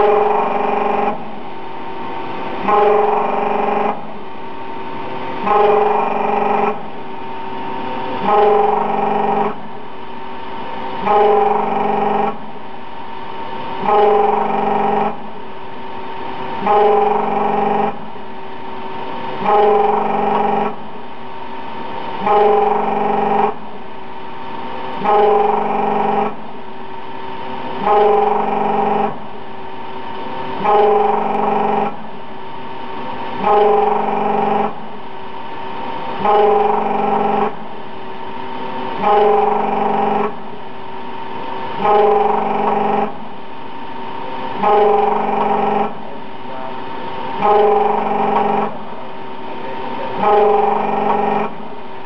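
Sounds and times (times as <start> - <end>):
lathe mechanical hum: 0.0 - 52.0.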